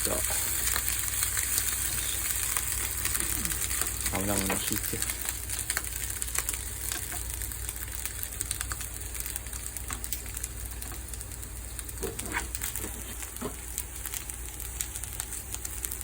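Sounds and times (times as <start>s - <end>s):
low steady hum: 0.0s - 16.0s
oil sizzling in frying pan: 0.0s - 16.0s.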